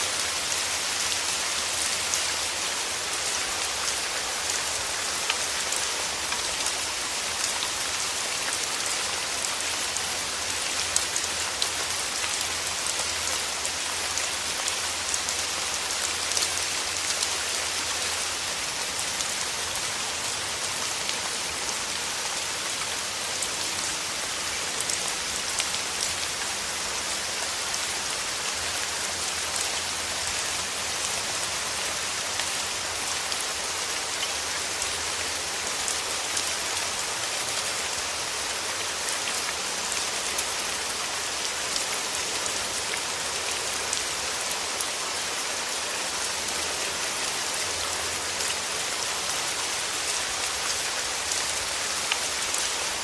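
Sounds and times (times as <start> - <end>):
rain falling on a surface: 0.0 - 53.0.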